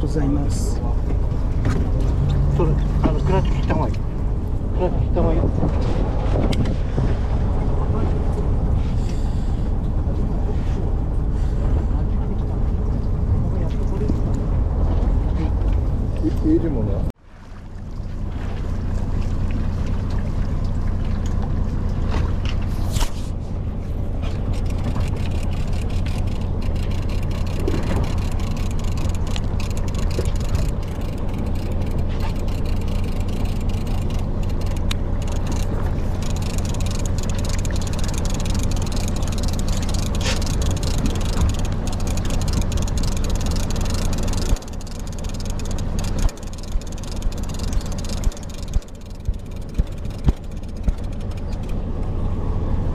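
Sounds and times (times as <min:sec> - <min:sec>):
boat engine humming: 0:00.0 - 0:52.9.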